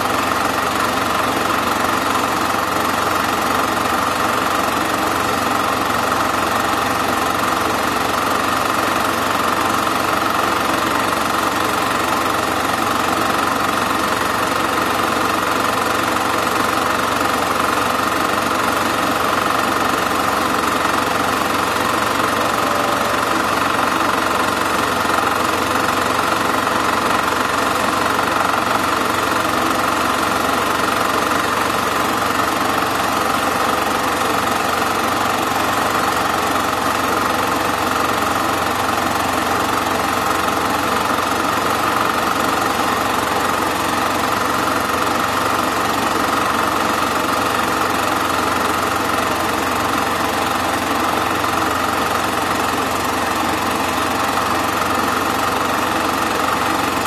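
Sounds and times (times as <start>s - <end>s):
film projector running: 0.0s - 57.0s.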